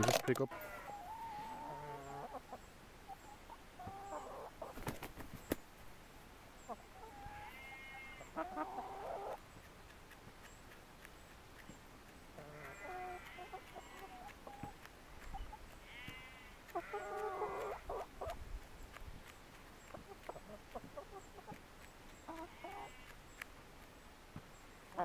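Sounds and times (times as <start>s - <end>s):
hens clucking: 0.0s - 5.6s, 6.6s - 23.5s.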